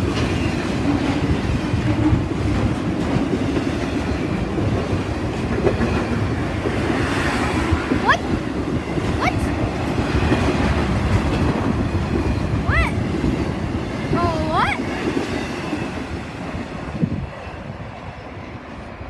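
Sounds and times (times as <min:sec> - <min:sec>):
freight train rumbling and clattering: 0:00.0 - 0:19.0.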